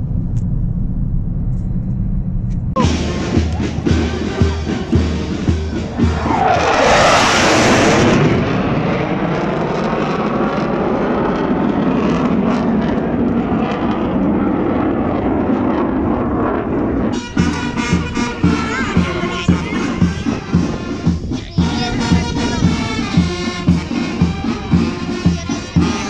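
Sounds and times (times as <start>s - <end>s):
fighter jets roaring overhead: 0.0s - 26.0s.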